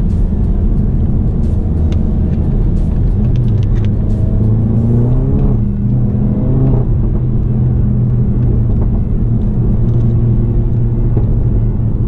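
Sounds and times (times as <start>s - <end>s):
car engine droning: 0.0s - 12.0s
road and tyre noise: 0.0s - 12.0s.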